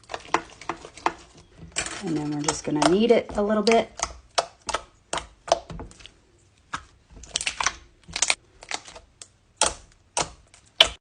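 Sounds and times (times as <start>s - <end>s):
slime squelching when kneaded: 0.0s - 11.0s.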